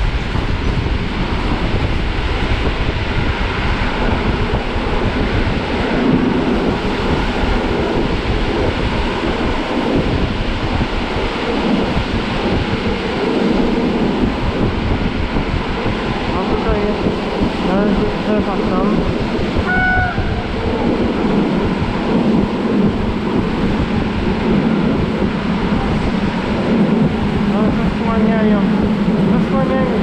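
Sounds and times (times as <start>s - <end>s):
train rumble: 0.0s - 30.0s
wind rushing past: 0.0s - 30.0s.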